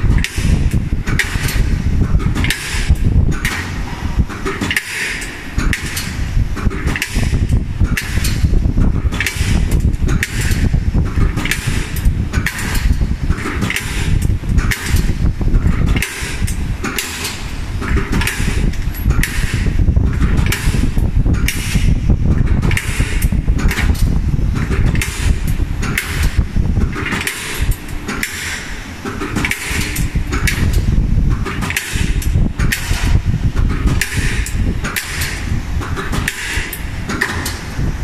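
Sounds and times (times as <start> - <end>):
low machine rumble: 0.0 - 38.0
machine punching steel tube: 0.0 - 38.0.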